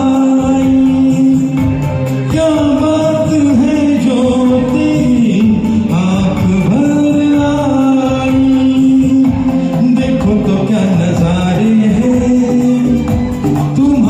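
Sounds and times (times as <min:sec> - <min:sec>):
instrumental backing track: 0:00.0 - 0:14.0
person singing film song: 0:00.0 - 0:14.0.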